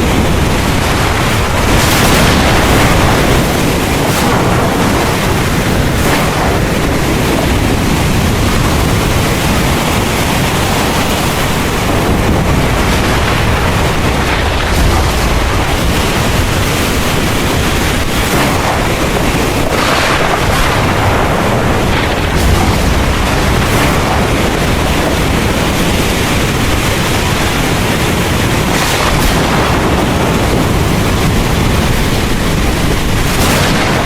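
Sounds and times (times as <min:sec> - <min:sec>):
deep low rumble: 0:00.0 - 0:34.0
heavy rain pouring: 0:00.0 - 0:34.0.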